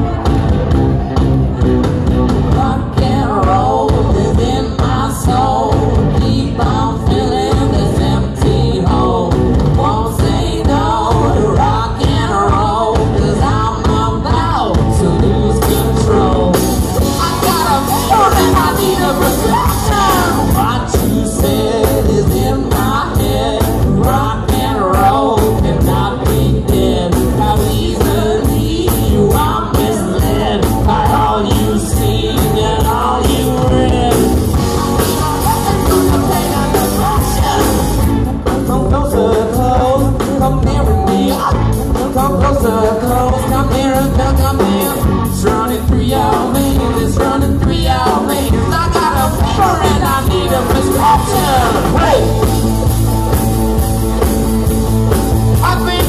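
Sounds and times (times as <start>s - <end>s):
male lead vocal: 0.0s - 53.4s, 55.2s - 56.0s
live rock band: 0.0s - 56.0s.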